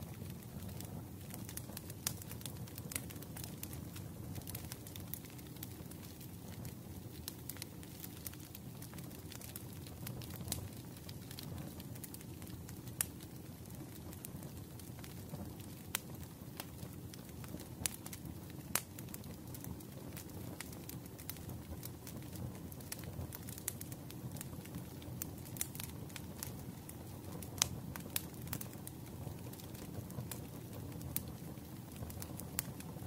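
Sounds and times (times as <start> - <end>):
wood fire crackling: 0.0 - 33.0
sharp pops from burning logs: 0.1 - 33.0.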